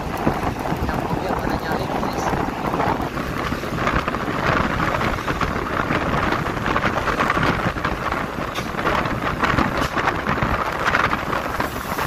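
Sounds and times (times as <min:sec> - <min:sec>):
road and engine rumble: 0:00.0 - 0:12.0
wind buffeting microphone: 0:00.0 - 0:12.0.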